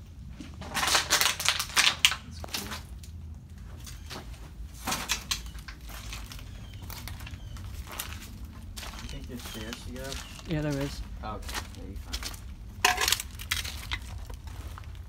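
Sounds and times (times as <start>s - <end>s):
footsteps crunching over debris: 0.1s - 15.0s.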